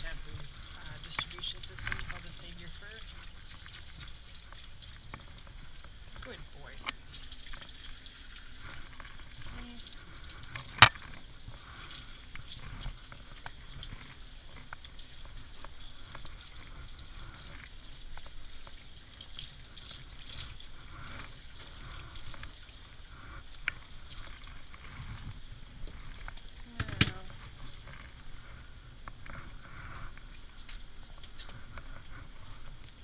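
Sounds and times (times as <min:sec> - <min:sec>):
water spraying from nozzle: 0:00.0 - 0:33.0.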